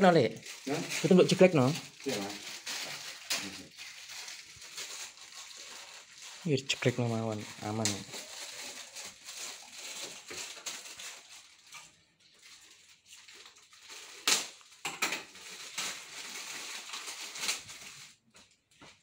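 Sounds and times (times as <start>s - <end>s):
plastic parts crinkling and crackling: 0.0s - 19.0s.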